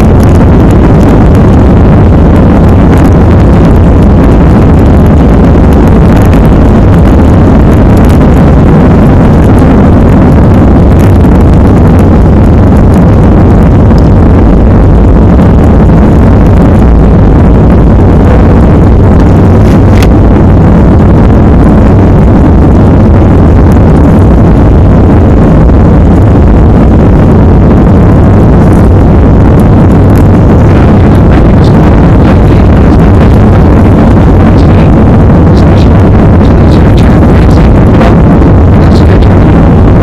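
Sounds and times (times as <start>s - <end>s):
jet engines and airflow in cabin: 0.0s - 40.0s.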